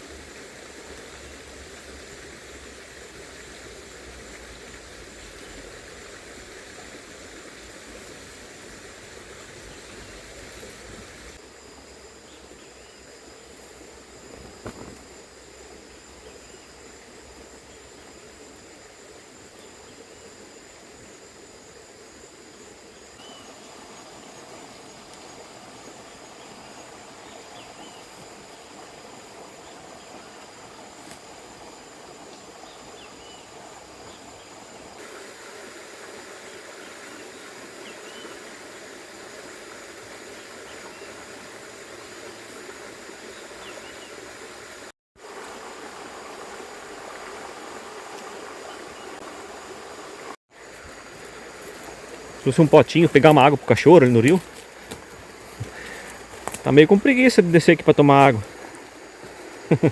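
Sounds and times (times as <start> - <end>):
insects trilling: 0.0 - 59.9
river running: 0.0 - 59.9.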